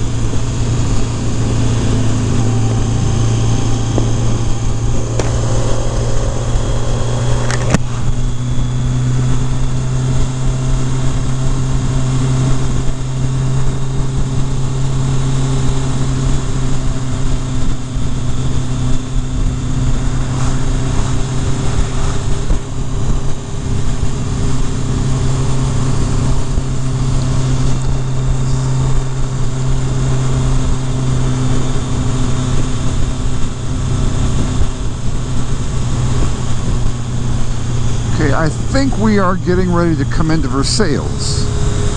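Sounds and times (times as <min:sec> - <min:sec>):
motorcycle engine cruising: 0:00.0 - 0:41.9
wind and road noise: 0:00.0 - 0:41.9.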